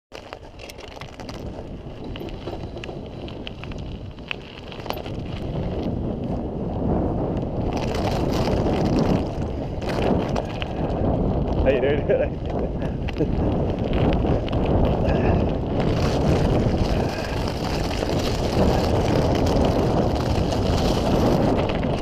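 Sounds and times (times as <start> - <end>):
bike tyres crunching on gravel: 0.1 - 22.0
wind buffeting microphone: 0.2 - 22.0.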